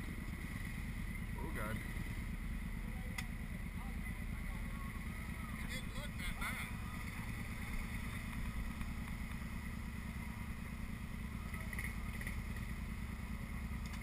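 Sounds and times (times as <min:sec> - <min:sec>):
atv engines idling: 0:00.0 - 0:14.0.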